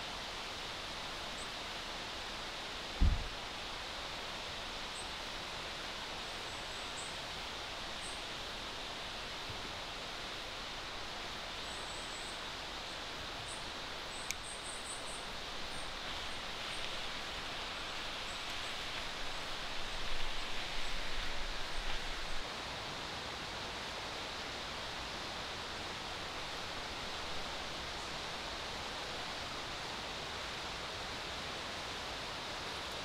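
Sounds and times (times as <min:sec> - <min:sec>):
forest ambience rushing hiss: 0:00.0 - 0:33.0.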